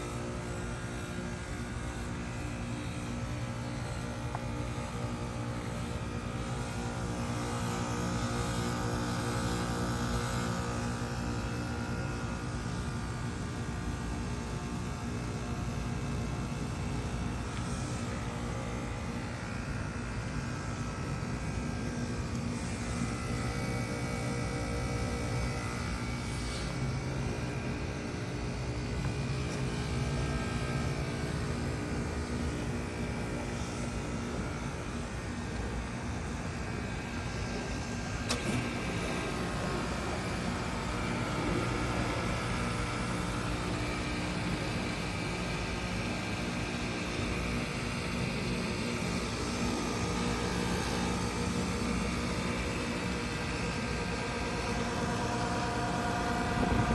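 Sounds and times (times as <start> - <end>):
heat pump units droning: 0.0 - 56.9.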